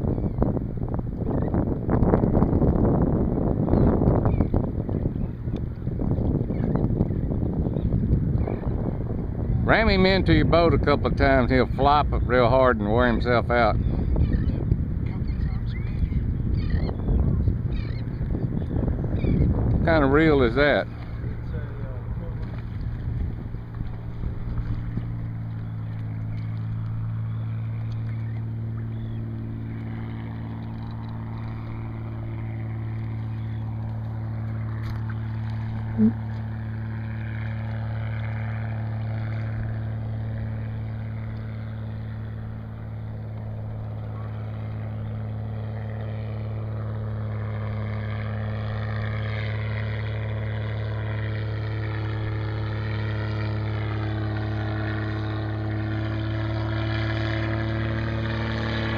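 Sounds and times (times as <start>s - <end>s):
boat motor humming: 0.0s - 58.9s.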